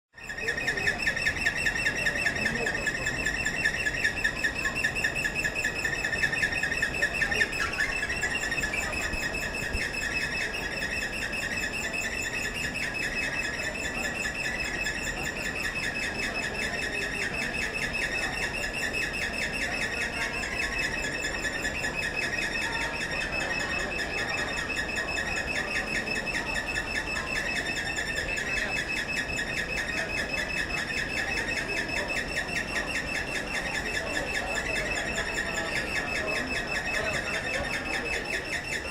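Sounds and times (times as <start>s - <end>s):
escalator pulsing squeak: 0.2s - 38.9s
people's voices: 0.2s - 38.9s.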